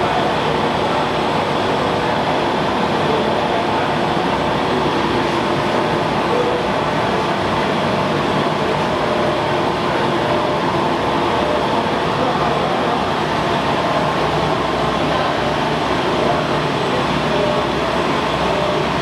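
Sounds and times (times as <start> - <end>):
printing machine running: 0.0 - 19.0.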